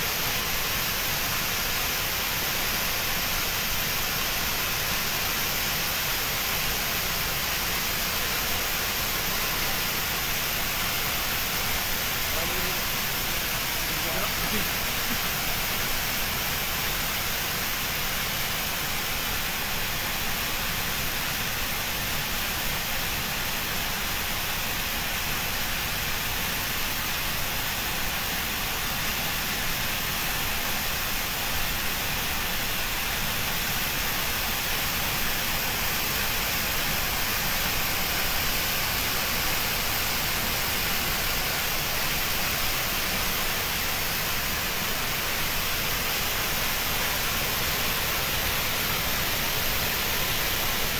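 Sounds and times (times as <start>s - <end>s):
high-pressure water jet rushing: 0.0s - 50.9s.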